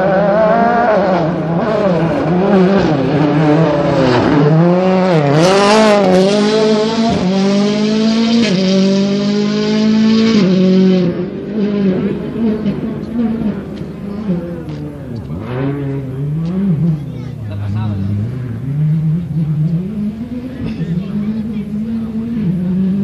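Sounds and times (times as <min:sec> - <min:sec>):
rally car engine passing: 0:00.0 - 0:23.0.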